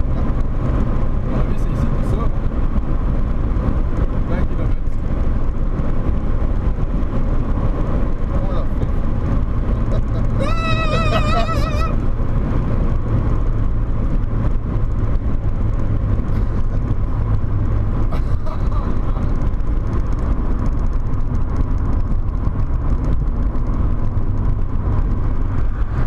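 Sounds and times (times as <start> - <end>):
car engine low rumble: 0.0 - 26.0
road noise: 0.0 - 26.0.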